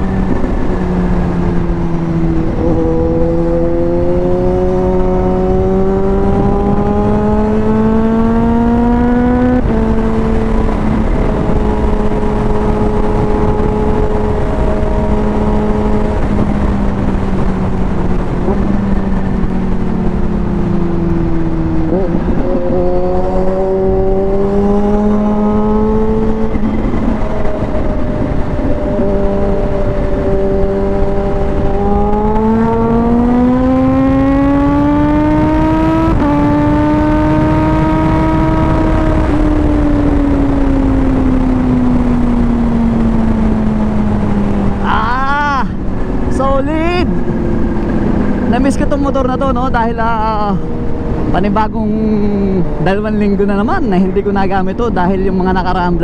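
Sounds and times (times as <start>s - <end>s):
motorcycle engine at speed: 0.0s - 56.0s
wind and road noise: 0.0s - 56.0s.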